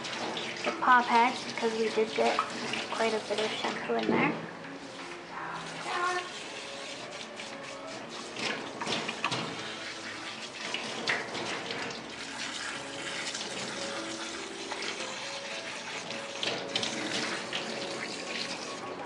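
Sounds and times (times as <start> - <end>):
shower sprayer water splashing: 0.0 - 19.0.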